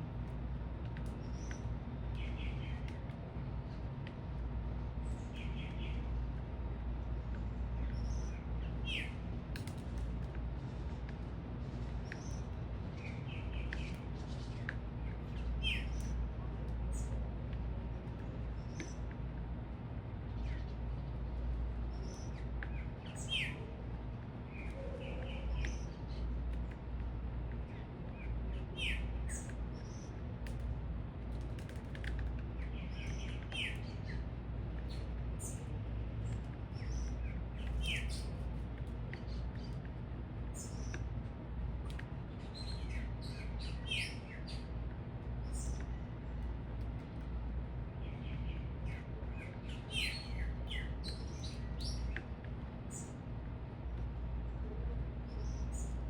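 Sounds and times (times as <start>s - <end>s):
steady low rumble: 0.0s - 56.0s
small birds chirping: 0.4s - 56.0s.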